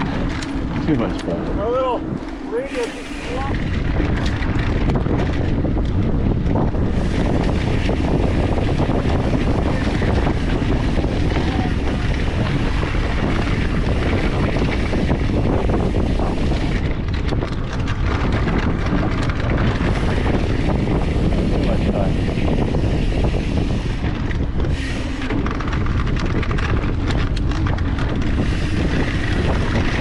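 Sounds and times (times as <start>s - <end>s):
bike clicks and rattles: 0.0s - 30.0s
tyres on dirt trail: 0.0s - 30.0s
wind rushing over microphone: 0.0s - 30.0s.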